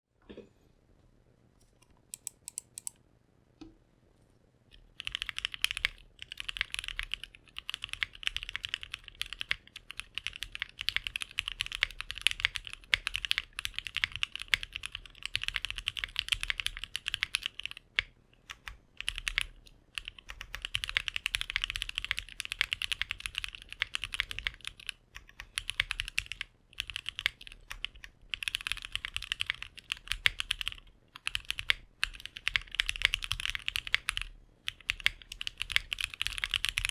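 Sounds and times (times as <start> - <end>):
mechanical keyboard typing: 2.1 - 3.0, 4.9 - 36.9.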